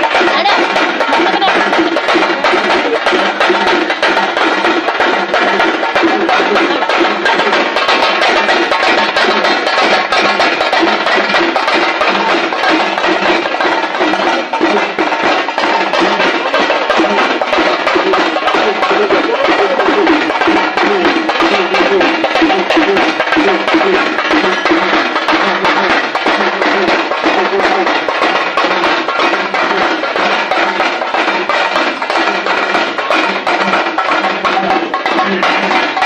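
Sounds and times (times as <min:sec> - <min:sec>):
wood-block and drum strikes: 0:00.0 - 0:36.0.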